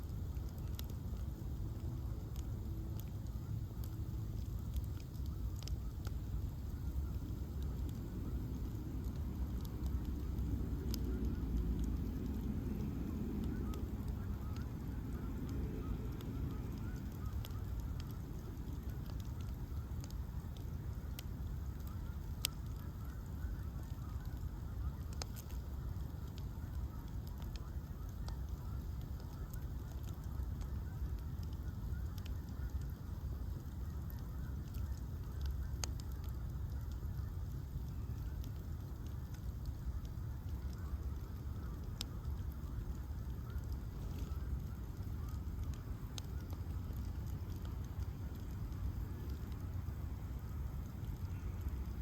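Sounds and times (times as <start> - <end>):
bonfire flames rumbling: 0.0 - 52.0
fire crackles and pops: 0.0 - 52.0.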